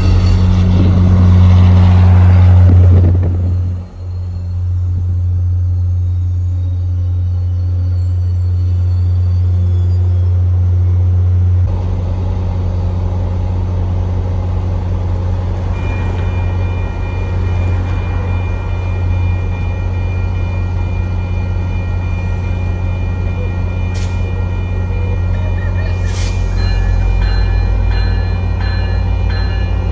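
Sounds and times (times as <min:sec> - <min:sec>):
steady high whine: 0:00.0 - 0:29.0
diesel locomotive low drone: 0:00.0 - 0:29.9.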